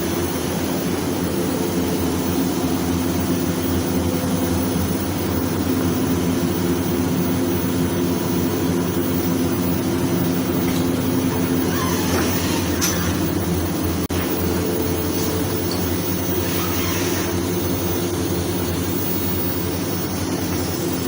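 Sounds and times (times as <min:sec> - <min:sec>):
machine humming: 0:00.0 - 0:21.0.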